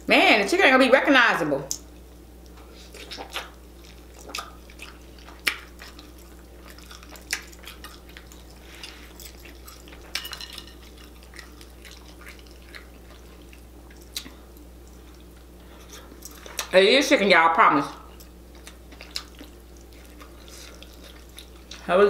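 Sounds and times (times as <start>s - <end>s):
lip smacks and chewing: 1.7s - 16.8s, 18.1s - 21.9s.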